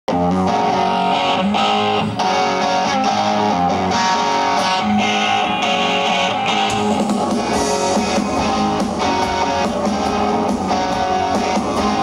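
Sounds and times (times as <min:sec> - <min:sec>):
electric guitar strumming chords: 0:00.1 - 0:12.0
live rock band: 0:00.1 - 0:12.0.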